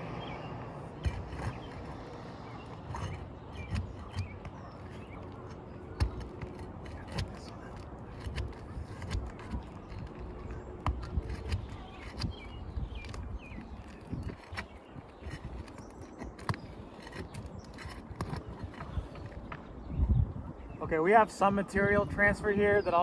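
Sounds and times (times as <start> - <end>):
metal roofing tool scraping shingles: 0.9 - 19.5.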